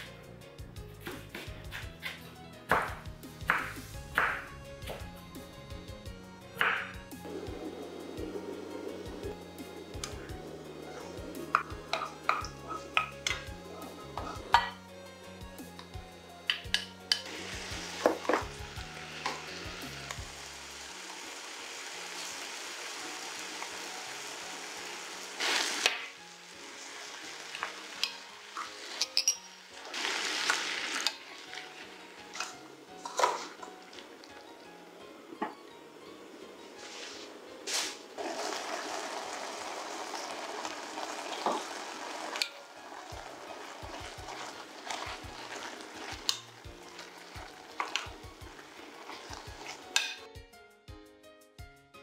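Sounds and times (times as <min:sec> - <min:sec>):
food sizzling in a pot: 0:06.6 - 0:34.2, 0:36.2 - 0:50.3.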